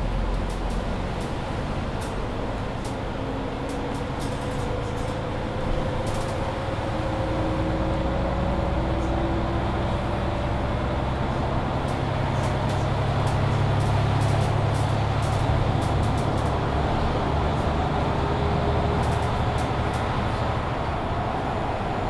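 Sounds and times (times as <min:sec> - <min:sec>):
bus drivetrain whine rising: 0:00.0 - 0:22.0.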